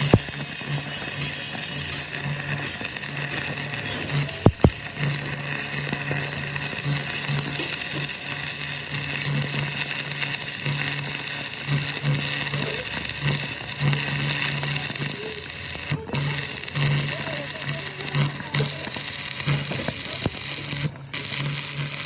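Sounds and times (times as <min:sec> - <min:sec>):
mechanical workshop noise: 0:00.0 - 0:22.0.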